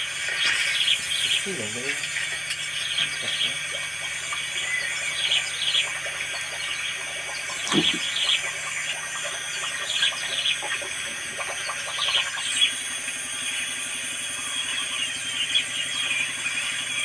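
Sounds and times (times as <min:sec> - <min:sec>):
high-pitched hum: 0:00.0 - 0:17.0.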